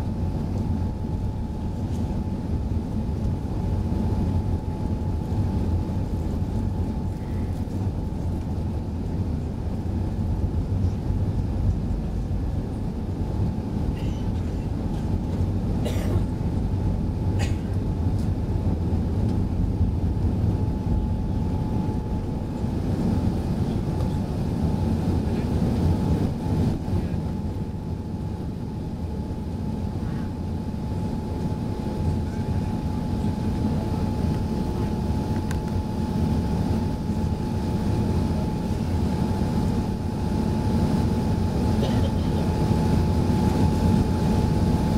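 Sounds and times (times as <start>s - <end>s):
high fan tone: 0.0s - 44.9s
jet engines deep rumble: 0.0s - 44.9s.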